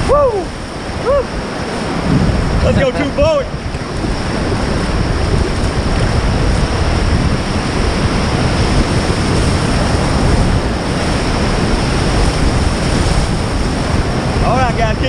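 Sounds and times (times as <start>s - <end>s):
river water rushing: 0.0s - 15.0s
wind buffeting microphone: 0.0s - 15.0s.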